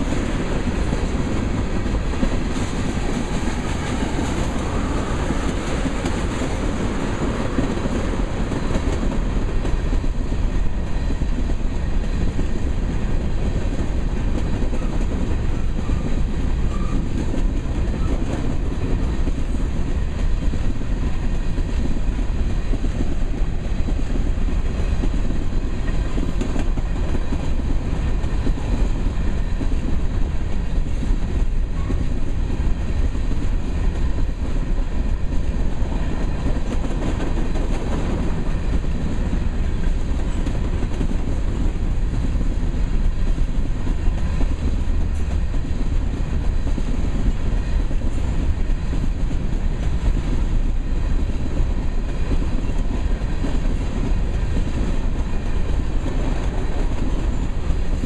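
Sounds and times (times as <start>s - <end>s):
freight train rolling past: 0.0s - 58.0s
steel wheels rolling on rails: 0.0s - 58.0s.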